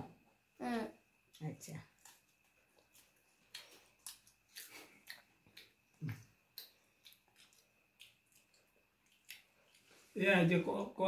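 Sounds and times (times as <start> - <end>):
child chewing crunchy snack: 1.2 - 10.1.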